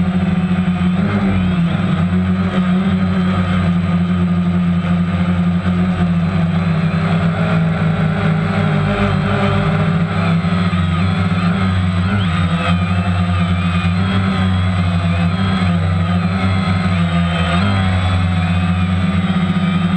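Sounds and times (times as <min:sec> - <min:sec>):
drone propellers humming: 0:00.0 - 0:19.9.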